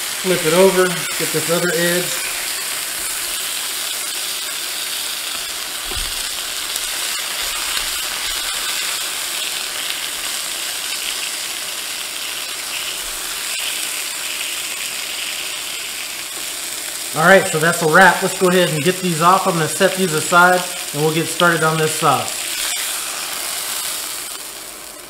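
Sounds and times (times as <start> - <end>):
steaks sizzling in a skillet: 0.0 - 25.0.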